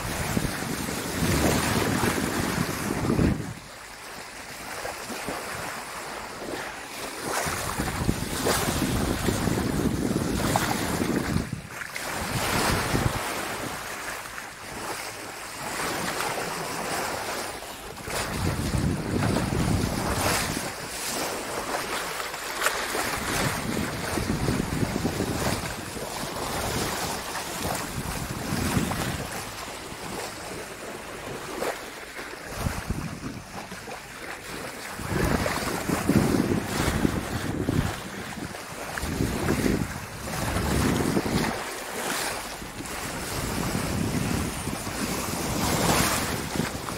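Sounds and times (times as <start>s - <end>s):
wind buffeting microphone: 0.0s - 3.8s, 7.1s - 13.9s, 15.8s - 22.0s, 22.8s - 46.9s
water rushing along boat hull: 0.0s - 46.9s.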